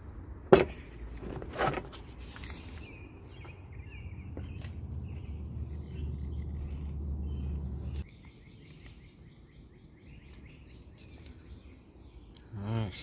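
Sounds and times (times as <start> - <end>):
birds chirping: 2.4 - 13.0.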